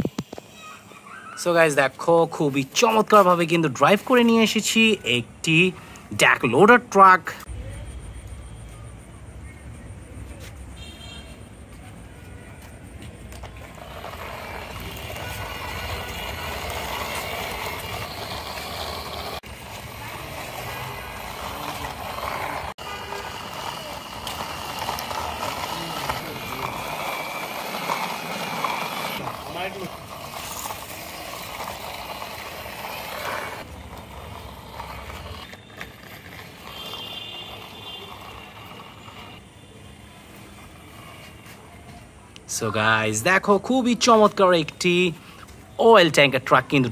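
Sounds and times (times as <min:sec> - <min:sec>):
plastic toy wheels scraping concrete: 0:00.0 - 0:07.5, 0:10.4 - 0:46.9.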